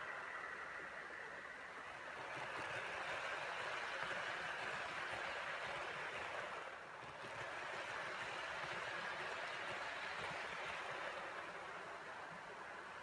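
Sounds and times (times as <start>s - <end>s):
model train motor whirring: 0.0s - 12.9s
wheels rolling on rails: 0.0s - 13.0s.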